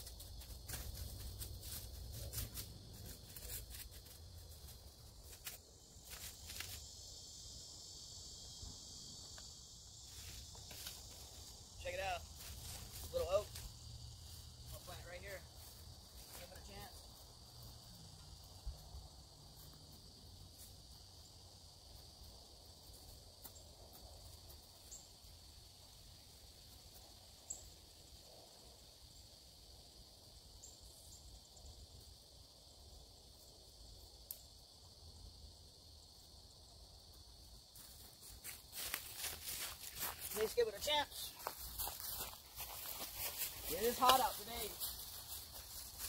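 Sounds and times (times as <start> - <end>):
high-pitched insect drone: 0.0 - 46.0.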